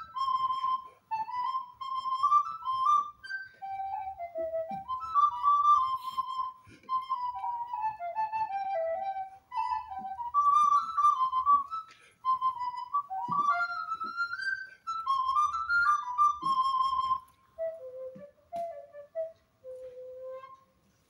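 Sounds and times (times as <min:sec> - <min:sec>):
wooden flute melody: 0:00.0 - 0:21.0.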